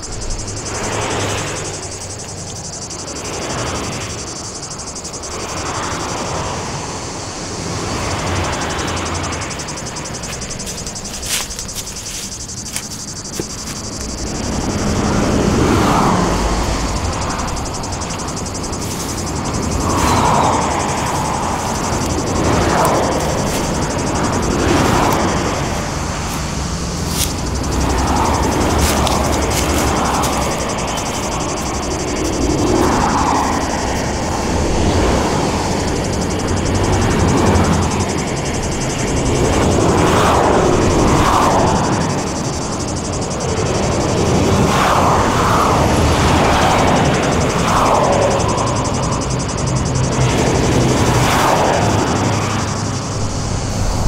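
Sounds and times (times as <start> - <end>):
insects buzzing: 0.0 - 54.0
traffic passing: 0.0 - 54.0.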